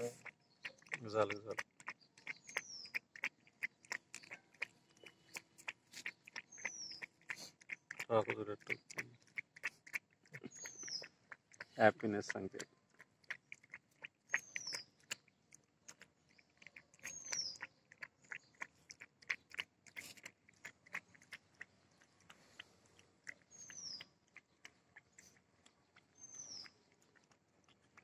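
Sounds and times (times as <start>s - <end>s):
puppy lapping milk: 0.0s - 28.0s.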